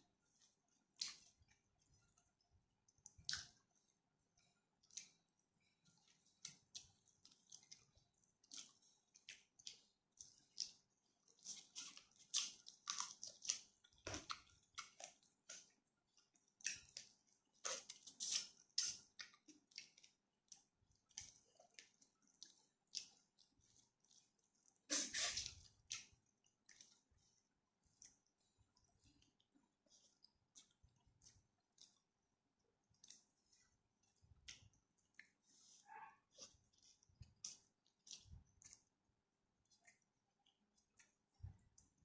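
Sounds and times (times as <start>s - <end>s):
person chewing food: 0.1s - 42.0s.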